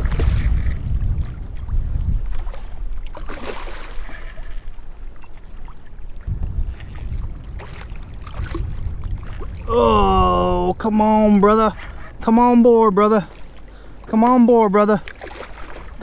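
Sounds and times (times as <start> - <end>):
wind rumbling on microphone: 0.0 - 14.2
water splashing: 0.0 - 16.0.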